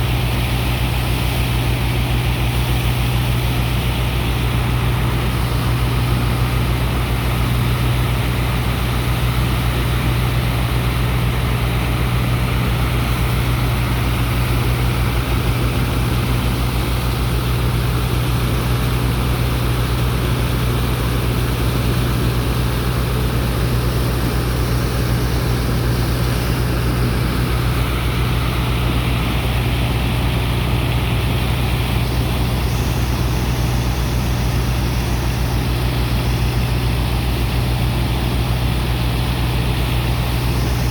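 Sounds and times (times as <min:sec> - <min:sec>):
dredger engines and pump droning: 0:00.0 - 0:40.9.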